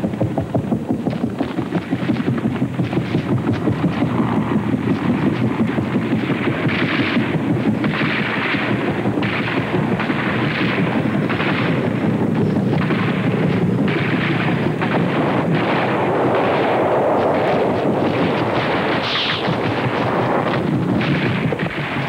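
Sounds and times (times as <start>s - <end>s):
explosion blasts: 0.0s - 22.0s
heavy continuous gunfire: 0.0s - 22.0s.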